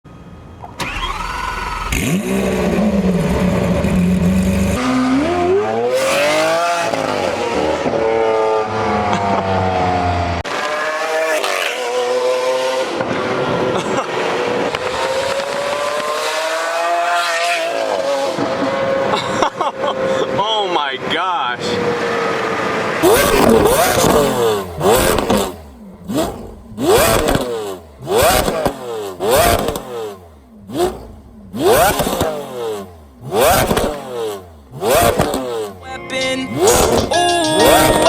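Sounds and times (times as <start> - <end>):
car engine revving and accelerating: 0.8 - 38.0.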